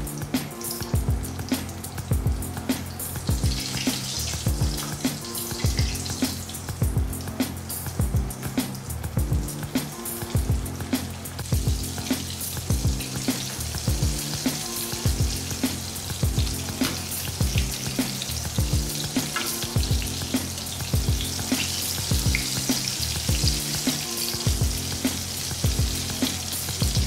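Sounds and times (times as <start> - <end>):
background music with beat: 0.0 - 27.0
chicken deep-frying in oil: 0.0 - 27.0.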